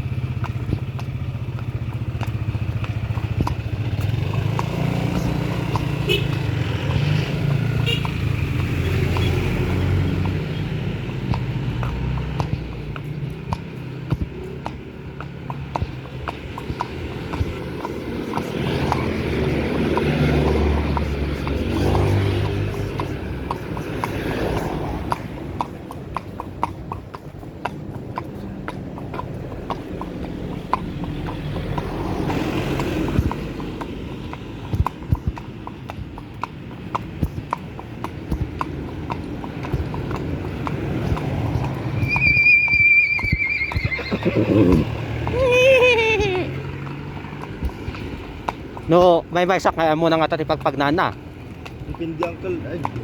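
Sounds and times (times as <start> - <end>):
horse hooves clip-clopping: 0.0 - 53.0.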